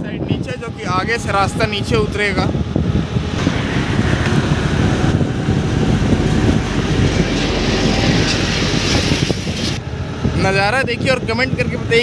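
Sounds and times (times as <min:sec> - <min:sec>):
wind buffeting microphone: 0:00.0 - 0:12.0
vehicle moving along road: 0:00.3 - 0:10.4.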